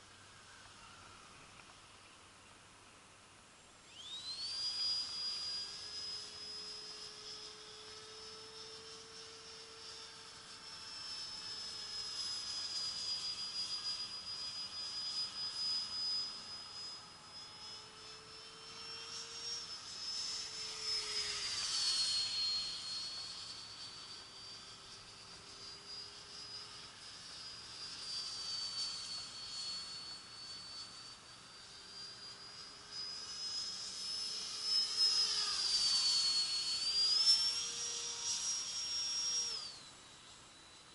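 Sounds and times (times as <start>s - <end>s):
model jet fan whine: 0.0s - 40.9s.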